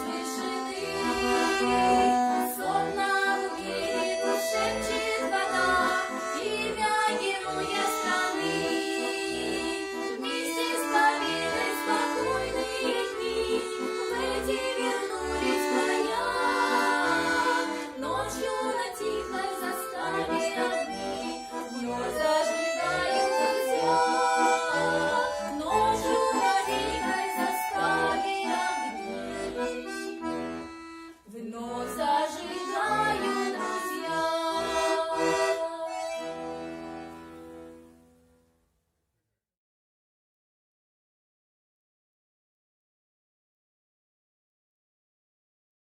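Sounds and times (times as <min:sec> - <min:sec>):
accordion music: 0:00.0 - 0:38.3.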